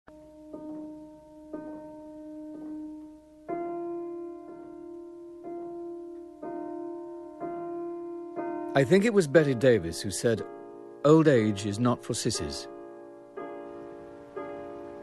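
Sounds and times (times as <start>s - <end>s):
slow sparse piano music: 0.1s - 15.0s.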